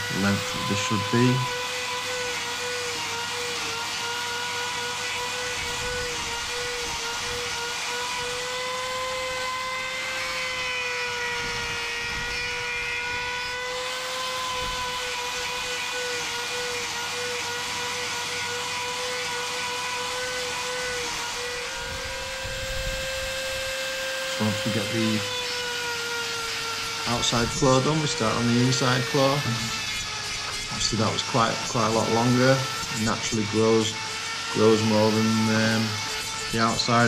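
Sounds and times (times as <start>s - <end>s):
angle grinder whining: 0.0s - 37.0s.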